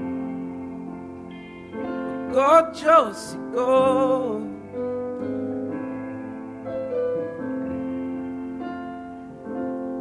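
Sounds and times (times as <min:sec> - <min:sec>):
held keyboard chords: 0:00.0 - 0:10.0.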